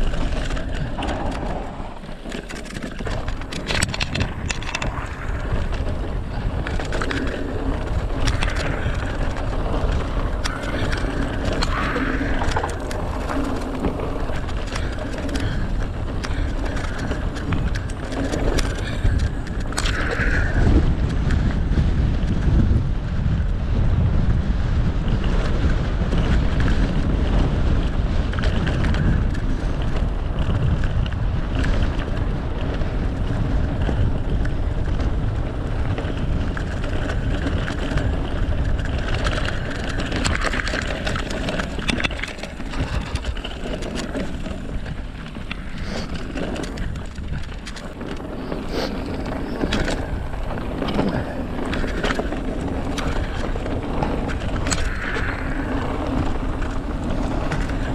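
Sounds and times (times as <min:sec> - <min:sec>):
bike rattling over bumps: 0:00.0 - 0:57.9
tyres rolling on gravel: 0:00.0 - 0:57.9
wind buffeting microphone: 0:00.0 - 0:57.9.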